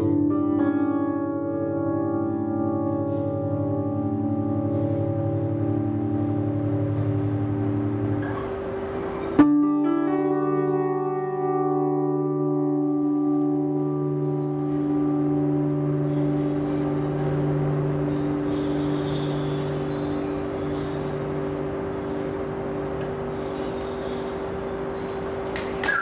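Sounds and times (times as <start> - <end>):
electric guitar chord ringing: 0.0 - 26.0
amplifier hiss: 1.5 - 26.0.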